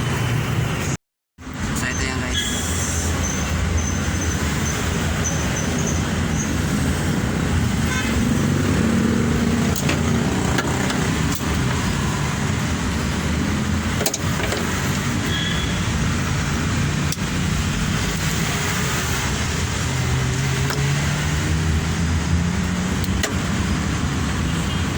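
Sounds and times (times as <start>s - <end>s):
highway traffic noise: 0.0s - 24.9s.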